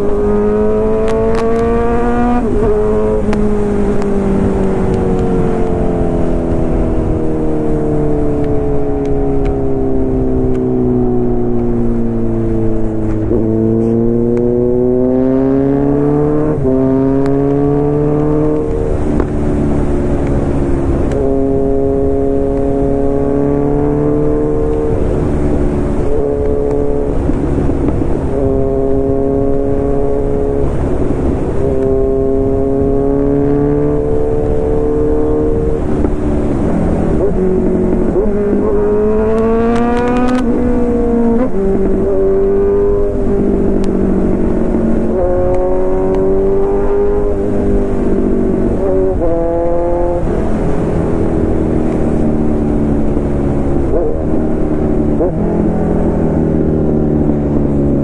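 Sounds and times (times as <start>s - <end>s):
motorcycle engine at speed: 0.0s - 58.0s
road and wind noise: 0.0s - 58.0s.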